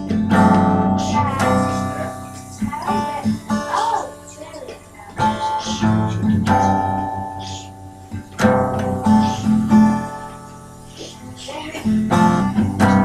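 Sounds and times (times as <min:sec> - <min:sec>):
acoustic guitar chords strummed: 0:00.0 - 0:13.0.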